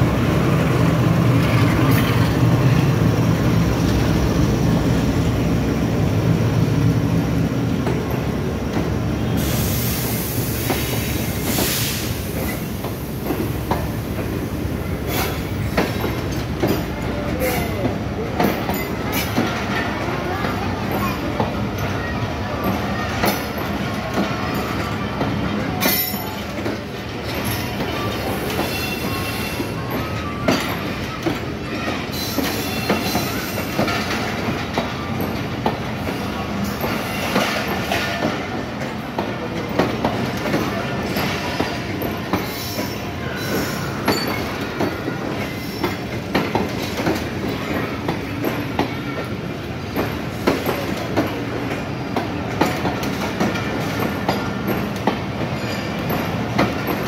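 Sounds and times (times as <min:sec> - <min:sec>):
steady train rumble: 0:00.0 - 0:57.0
train wheels clacking: 0:00.7 - 0:57.0.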